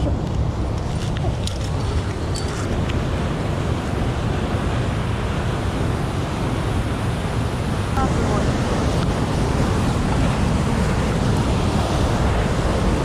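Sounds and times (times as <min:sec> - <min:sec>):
fast stream water rushing: 0:01.1 - 0:13.0.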